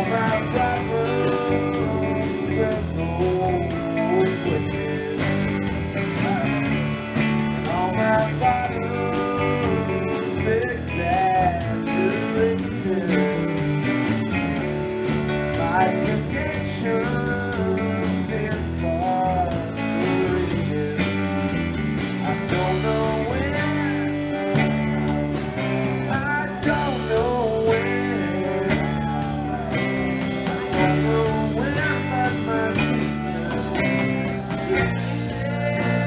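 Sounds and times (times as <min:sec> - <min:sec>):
drum kit: 0:00.0 - 0:36.0
electric guitars: 0:00.0 - 0:36.0.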